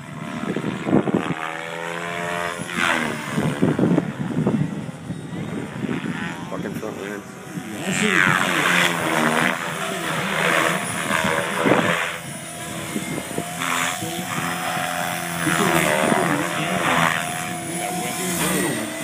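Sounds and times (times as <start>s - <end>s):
motor and gear whine: 0.0s - 19.0s
rotor blades whooshing: 0.2s - 19.0s.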